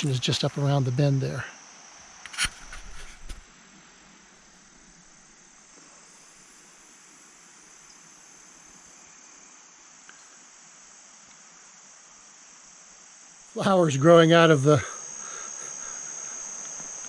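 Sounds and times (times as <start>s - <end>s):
crickets trilling: 0.0s - 17.0s
open-air hiss: 0.0s - 17.0s.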